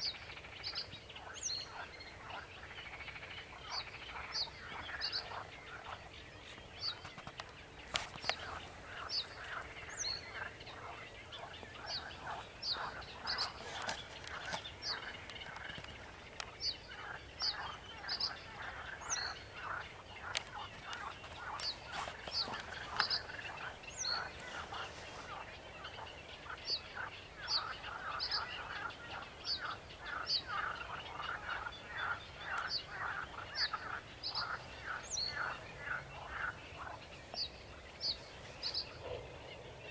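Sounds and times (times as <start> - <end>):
warbler chattering song: 0.0 - 39.1.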